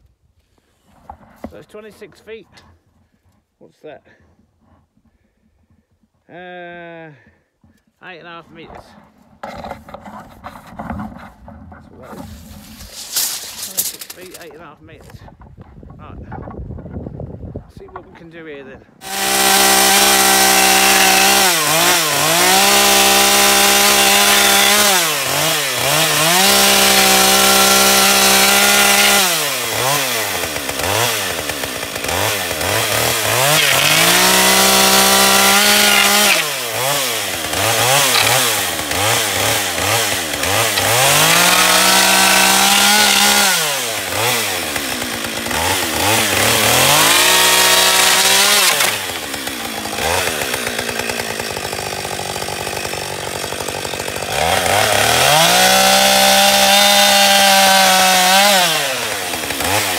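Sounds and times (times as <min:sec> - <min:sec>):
chainsaw cutting wood: 0:08.6 - 0:15.7, 0:18.2 - 0:59.9.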